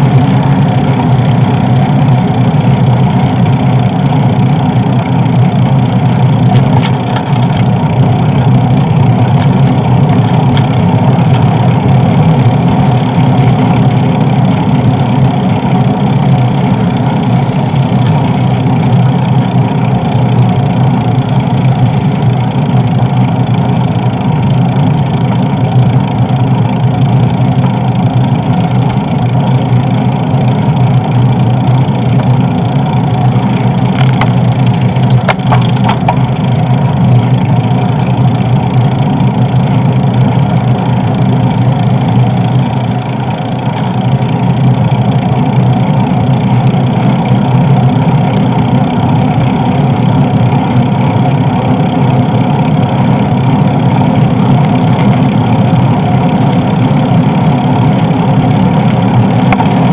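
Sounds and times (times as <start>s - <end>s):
road rumble: 0.0s - 59.9s.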